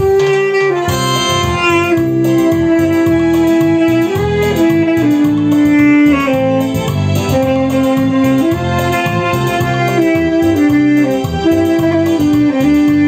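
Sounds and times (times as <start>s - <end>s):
backing track with bass and percussion: 0.0s - 13.0s
saxophone salsa melody: 0.0s - 13.0s.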